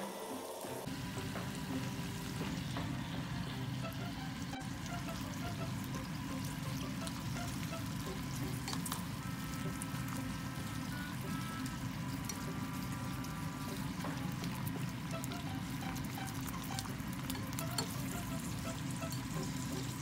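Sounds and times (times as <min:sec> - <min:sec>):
food sizzling in pan: 0:00.0 - 0:20.0
soft background music: 0:00.1 - 0:20.0.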